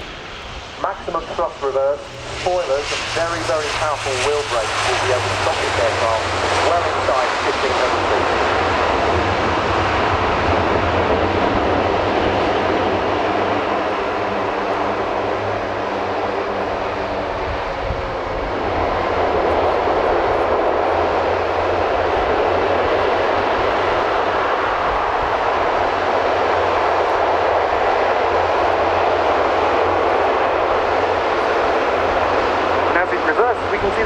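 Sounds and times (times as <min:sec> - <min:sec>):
propeller drone: 0:00.0 - 0:34.0
reverse thrust roar: 0:00.0 - 0:34.0.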